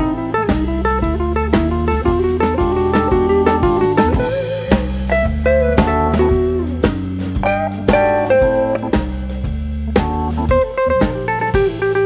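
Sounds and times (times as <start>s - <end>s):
bass: 0.0s - 12.0s
blues guitar tune: 0.0s - 12.0s
drum beat: 0.0s - 12.0s.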